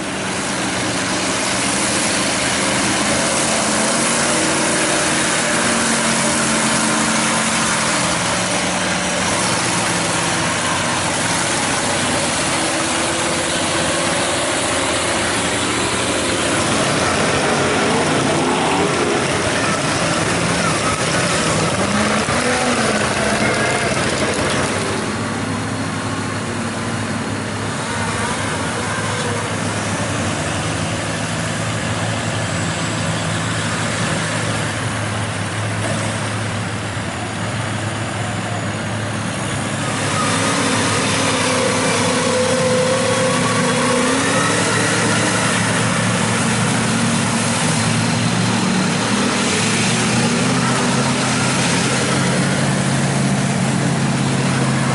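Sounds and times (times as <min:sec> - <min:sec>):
diesel truck engines running: 0:00.0 - 0:54.9.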